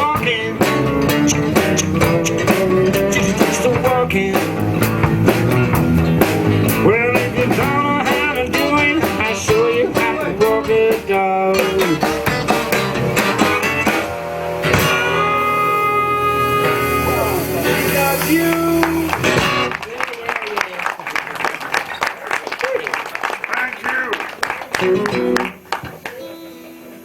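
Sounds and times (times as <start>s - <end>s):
electric guitar bending notes: 0.0s - 19.9s, 24.6s - 27.0s
blues band playing: 0.0s - 27.0s.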